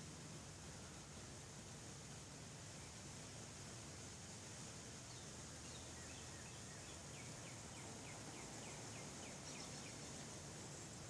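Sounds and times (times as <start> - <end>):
songbird singing faintly: 0.0 - 11.0
steady hiss: 0.0 - 11.0.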